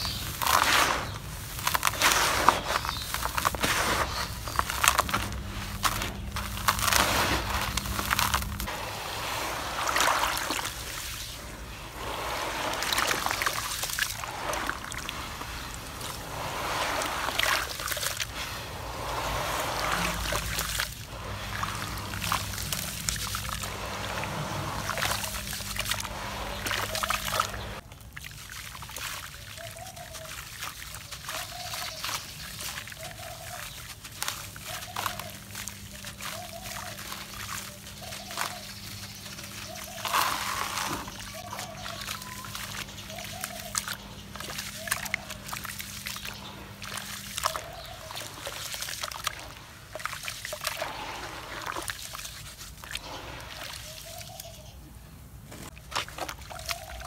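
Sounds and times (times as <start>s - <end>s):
hands crunching wet cement: 0.0s - 54.8s, 55.5s - 57.0s
water sloshing and splashing: 0.0s - 57.0s.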